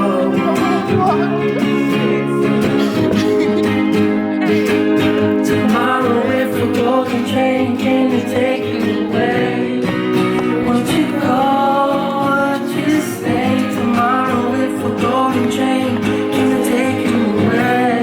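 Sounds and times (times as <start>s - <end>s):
man singing: 0.0s - 3.8s, 5.5s - 18.0s
acoustic guitar music: 0.0s - 18.0s.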